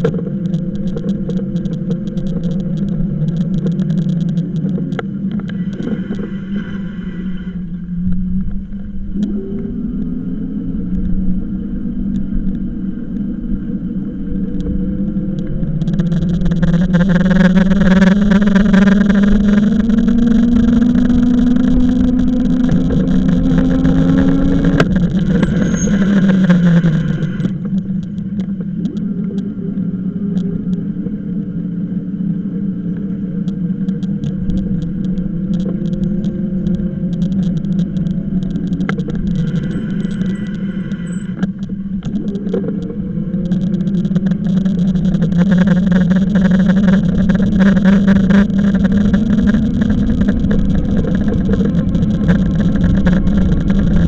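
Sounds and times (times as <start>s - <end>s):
e-bike motor whine: 0.0s - 54.0s
wind and road noise: 0.0s - 54.0s.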